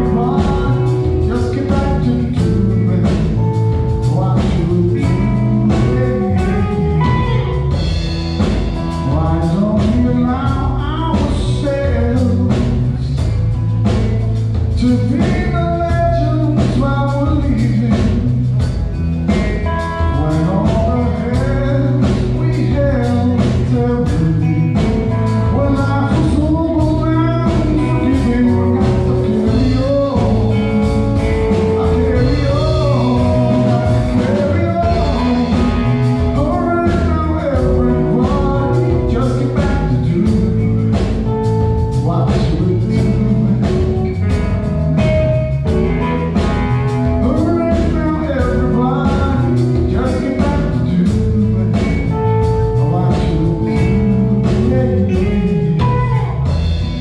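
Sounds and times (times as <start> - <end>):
bass guitar: 0.0 - 57.0
drum kit beat: 0.0 - 57.0
electric guitar: 0.0 - 57.0
man singing: 0.0 - 57.0.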